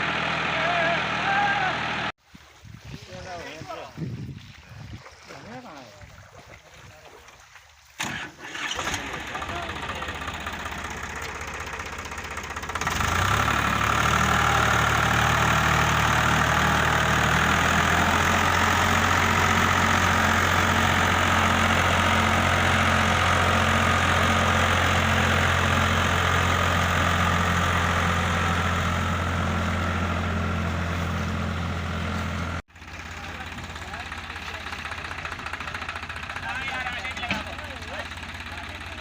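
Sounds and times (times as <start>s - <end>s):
tractor diesel engine revving: 0.0s - 2.2s, 8.0s - 39.0s.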